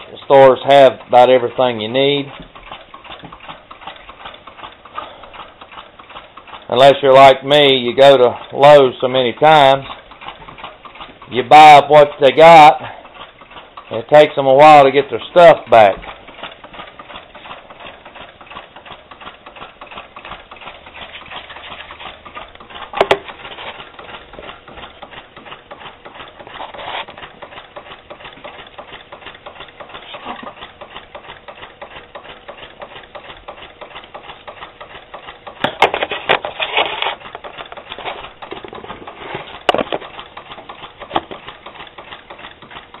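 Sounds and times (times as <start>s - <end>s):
small engine fast ticking: 0.0s - 43.0s.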